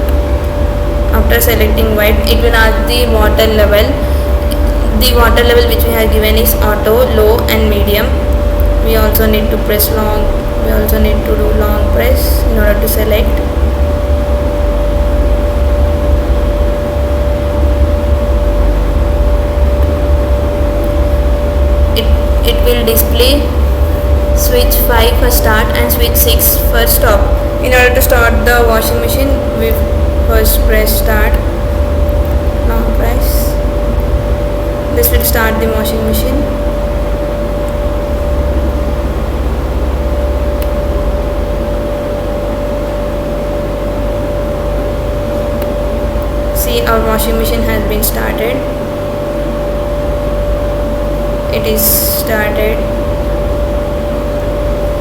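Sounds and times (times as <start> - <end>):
low hum: 0.0 - 55.0
low rumble: 0.0 - 55.0
thin steady tone: 0.0 - 55.0.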